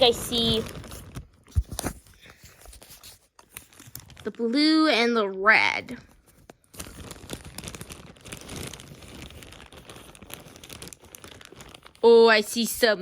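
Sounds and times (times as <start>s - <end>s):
packaging crinkling and rustling: 0.0s - 4.9s, 5.7s - 12.9s.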